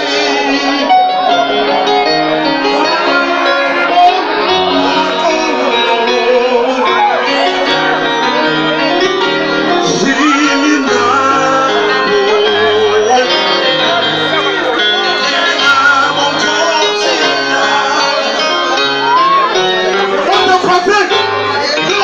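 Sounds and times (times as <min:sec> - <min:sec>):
keyboard accompaniment: 0:00.0 - 0:22.0
man singing: 0:00.0 - 0:22.0.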